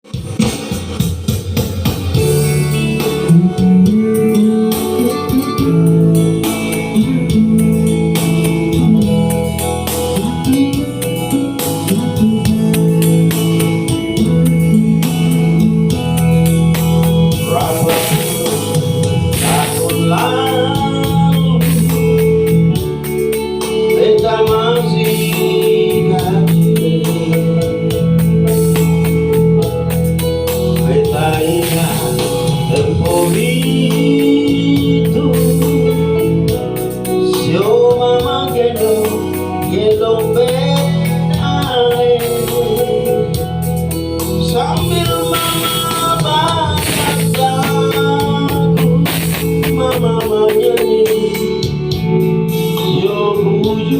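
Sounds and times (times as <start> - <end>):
electronic organ chords: 0.0 - 53.9
person singing: 2.2 - 30.0, 30.6 - 43.6, 44.3 - 53.9.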